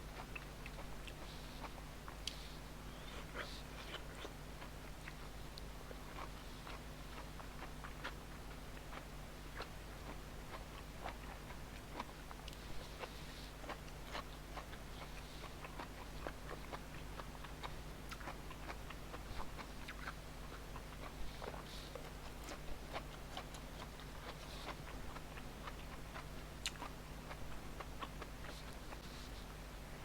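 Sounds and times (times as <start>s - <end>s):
person chewing food: 0.1s - 29.7s.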